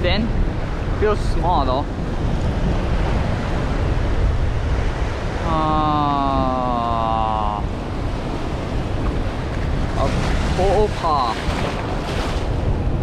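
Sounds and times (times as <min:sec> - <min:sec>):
surf washing over reef: 0:00.0 - 0:13.0
wind buffeting microphone: 0:00.0 - 0:13.0.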